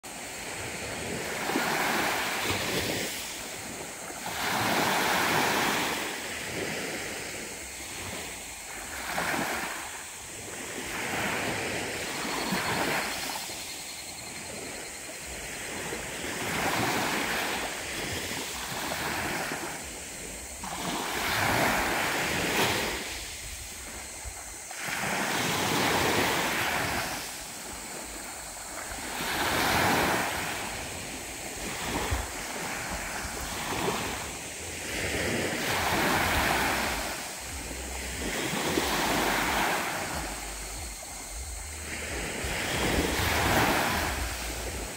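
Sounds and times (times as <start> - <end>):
small waves breaking on sand: 0.0 - 44.9
cicada pulsed call: 0.1 - 44.9.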